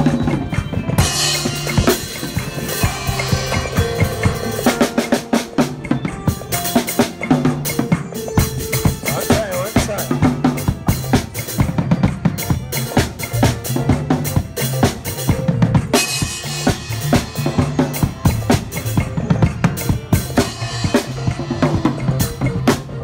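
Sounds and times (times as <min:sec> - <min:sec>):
backing track with bass line: 0:00.0 - 0:23.0
drum kit groove: 0:00.0 - 0:23.0.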